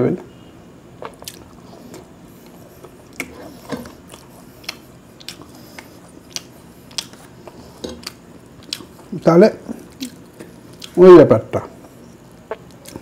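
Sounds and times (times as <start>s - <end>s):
man chewing food: 0.9s - 13.0s.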